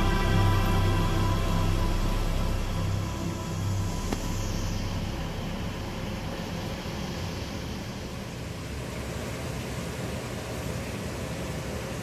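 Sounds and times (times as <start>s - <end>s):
steady hiss with low hum: 0.0s - 12.0s.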